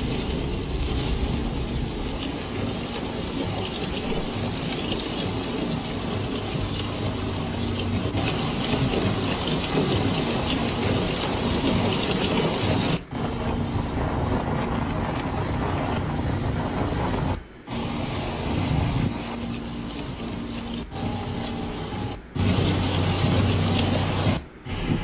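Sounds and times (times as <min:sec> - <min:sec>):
low steady hum: 0:00.0 - 0:11.6, 0:13.0 - 0:25.0
floodwater rushing: 0:00.0 - 0:25.0
heavy rain: 0:00.0 - 0:25.0.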